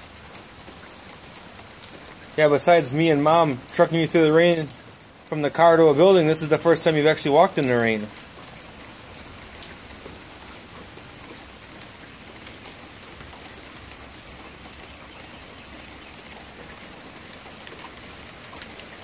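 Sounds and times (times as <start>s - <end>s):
light drips and patters: 0.0s - 19.0s
steady rain hissing: 0.0s - 19.0s.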